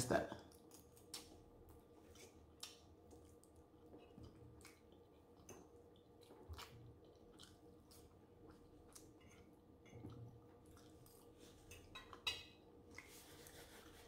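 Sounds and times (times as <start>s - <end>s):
chewing and mouth sounds: 0.4s - 13.9s.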